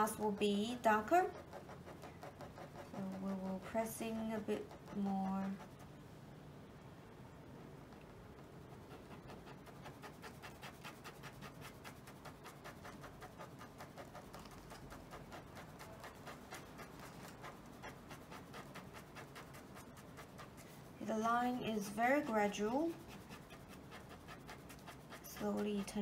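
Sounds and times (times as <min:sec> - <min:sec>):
pen scratching on paper: 0:00.0 - 0:06.0, 0:08.4 - 0:26.0.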